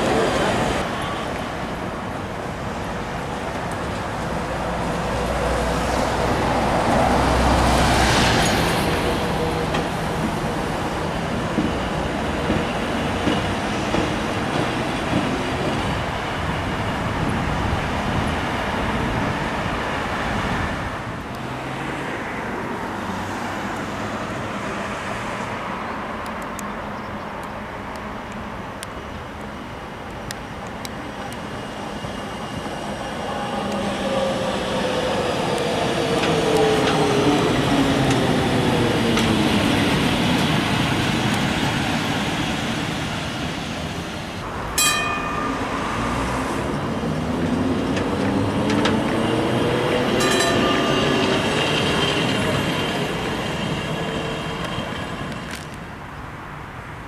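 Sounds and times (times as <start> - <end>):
tram wheels rumbling on rails: 0.0 - 56.8.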